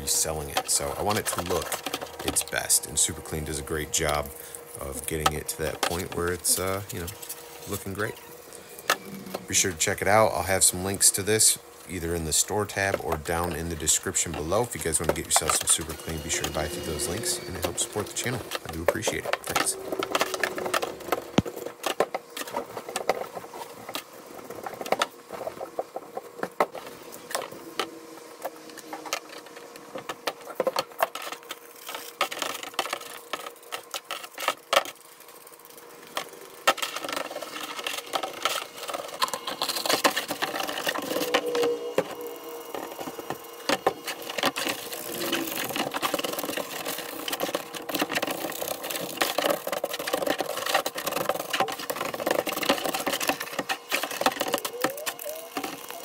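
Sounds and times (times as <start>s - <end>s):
stiff brush scrubbing plastic: 0.0s - 27.8s, 28.4s - 56.0s
steady hum: 0.0s - 56.0s.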